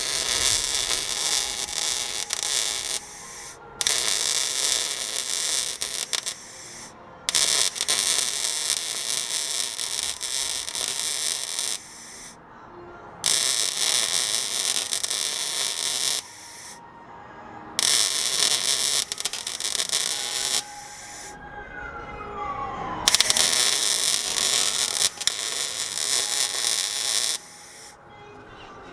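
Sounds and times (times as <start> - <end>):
welding crackling hiss: 0.0 - 12.4, 13.2 - 16.8, 17.8 - 21.4, 23.1 - 28.0.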